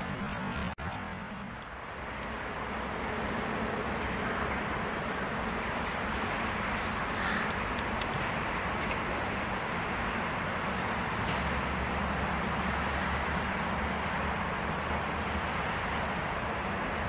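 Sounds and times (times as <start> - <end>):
traffic rumble and hiss: 0.0 - 17.0.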